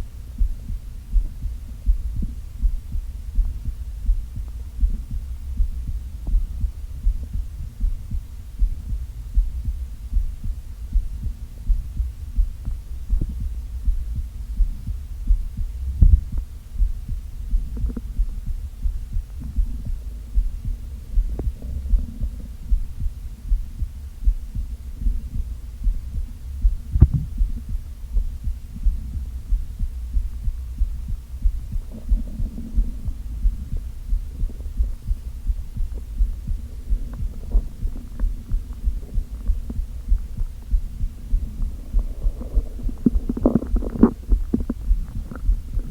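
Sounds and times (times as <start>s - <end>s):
low thumping: 0.0s - 45.9s
stomach rumble: 0.0s - 45.9s
stomach gurgles: 0.4s - 45.9s.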